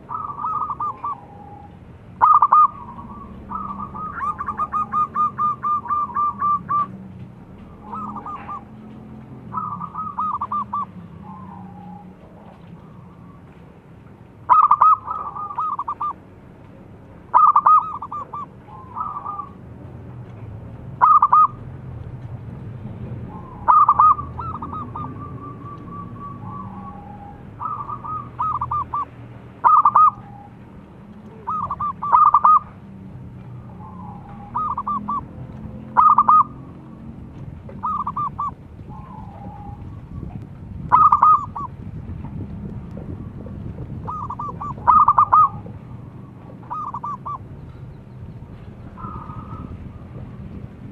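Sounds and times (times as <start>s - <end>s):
dove cooing: 0.0s - 13.5s, 14.5s - 16.2s, 17.3s - 19.6s, 21.0s - 21.7s, 23.2s - 32.9s, 33.5s - 41.8s, 43.0s - 47.8s, 48.8s - 50.4s.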